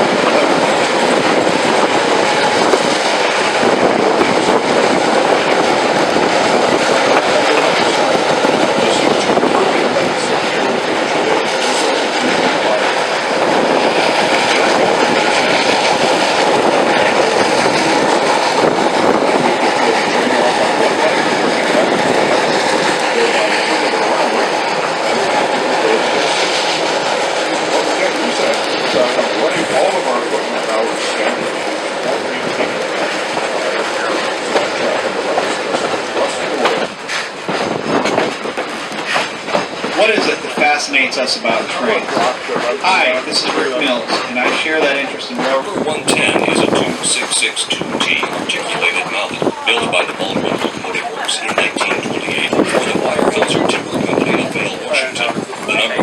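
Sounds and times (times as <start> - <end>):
steam train running: 0.0 - 56.0
wind buffeting microphone: 0.0 - 56.0.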